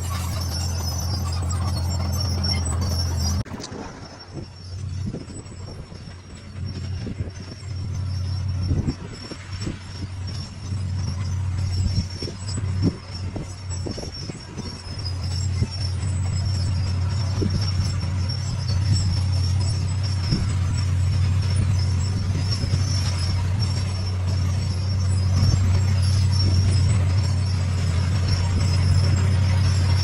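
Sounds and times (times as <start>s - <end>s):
bulldozer diesel engine humming: 0.0s - 30.0s.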